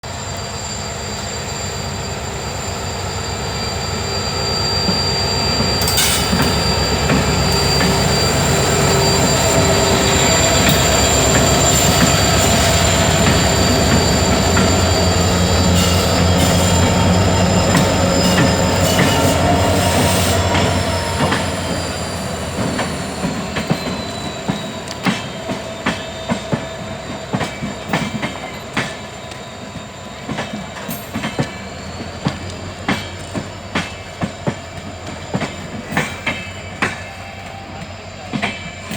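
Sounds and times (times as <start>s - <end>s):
diesel locomotive engine drone: 0.0s - 38.9s
train wheels clacking on rail joints: 4.8s - 38.9s.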